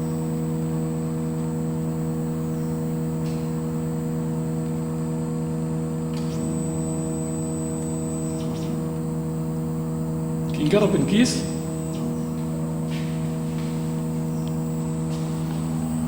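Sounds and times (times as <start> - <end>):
faint high whine: 0.0 - 16.0
milling machine humming: 0.0 - 16.0.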